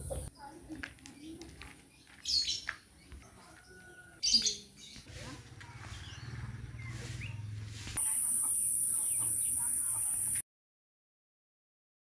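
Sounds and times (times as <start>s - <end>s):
birds chirping and calling: 0.0s - 10.4s.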